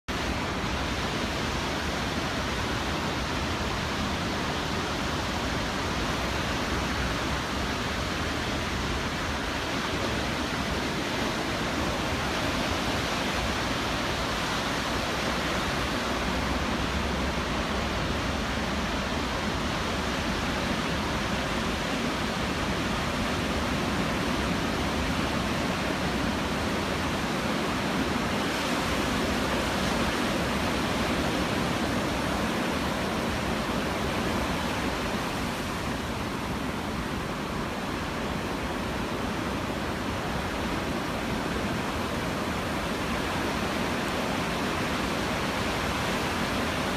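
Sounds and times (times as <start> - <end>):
ocean surf rushing: 0.1 - 46.9.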